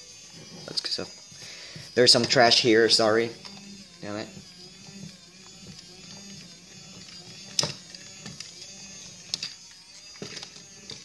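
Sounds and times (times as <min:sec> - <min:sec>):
toy robot motor whirring: 0:00.0 - 0:11.0.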